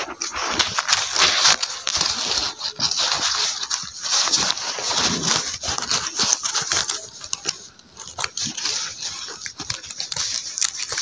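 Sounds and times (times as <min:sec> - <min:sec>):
fabric rustling: 0:00.0 - 0:11.0
quick clicks and crinkles: 0:00.0 - 0:11.0.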